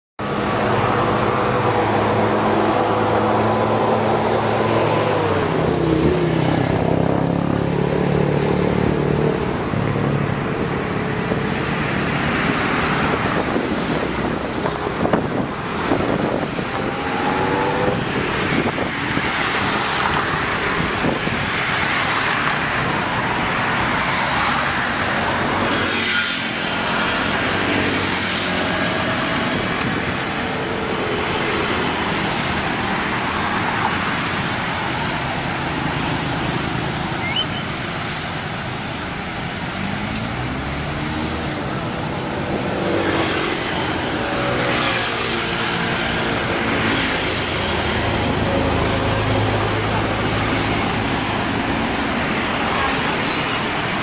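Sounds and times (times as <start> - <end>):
road traffic passing: 0.2 - 54.0.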